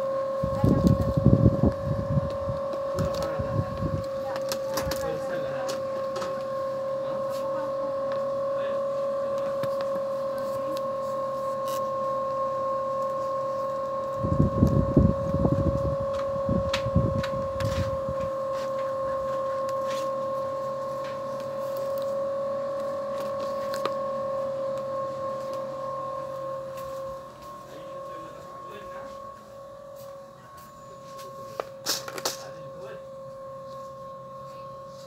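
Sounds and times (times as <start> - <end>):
high-pitched hum: 0.0 - 35.0.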